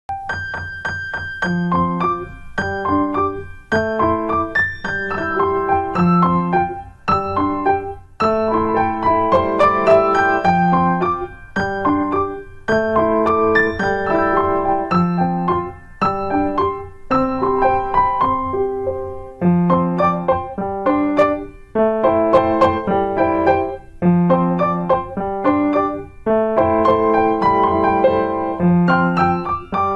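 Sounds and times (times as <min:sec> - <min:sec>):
piano music: 0:00.1 - 0:29.9.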